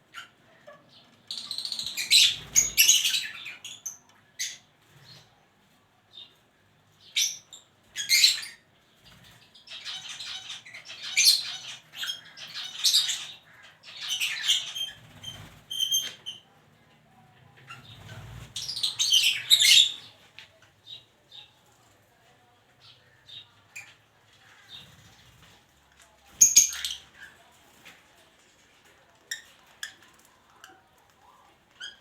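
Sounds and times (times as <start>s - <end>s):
lovebirds chattering and squawking: 0.0s - 5.4s, 7.0s - 16.6s, 17.3s - 21.7s, 22.7s - 25.6s, 26.3s - 28.2s, 29.2s - 32.0s.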